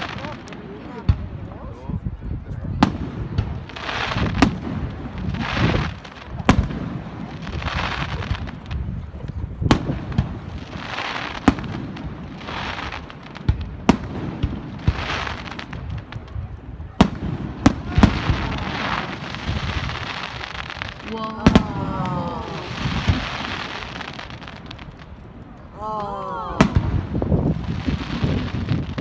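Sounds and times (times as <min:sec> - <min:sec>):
fireworks hissing crackle: 0:00.0 - 0:01.6, 0:02.8 - 0:25.8, 0:26.6 - 0:29.0
fireworks bangs: 0:00.0 - 0:29.0.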